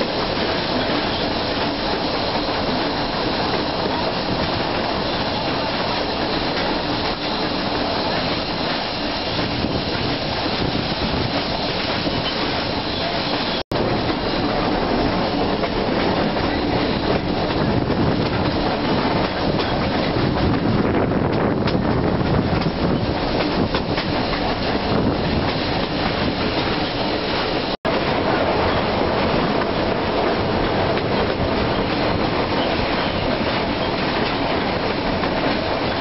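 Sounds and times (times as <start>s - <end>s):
train car rolling on rails: 0.0s - 36.0s.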